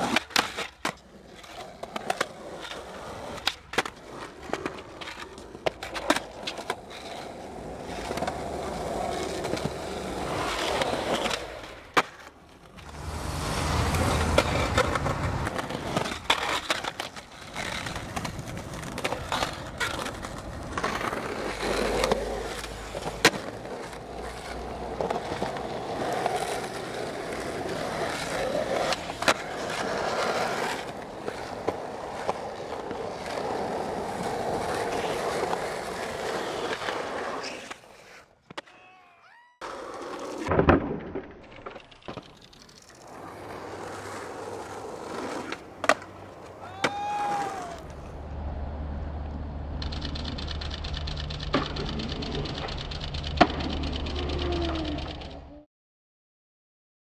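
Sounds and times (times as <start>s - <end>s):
skateboard wheels rolling on asphalt: 0.0s - 38.7s, 39.6s - 55.6s
skateboard clacks: 0.0s - 38.9s, 39.6s - 48.2s, 49.1s - 55.6s.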